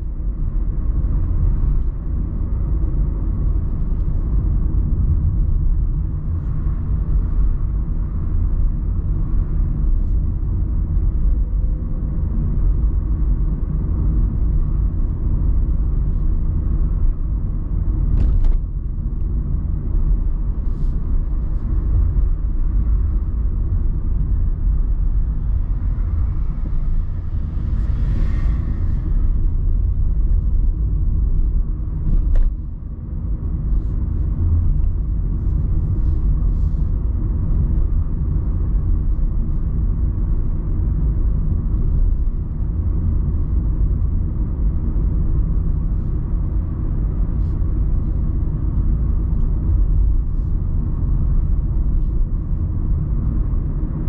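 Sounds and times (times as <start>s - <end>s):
road and engine rumble: 0.0s - 54.0s.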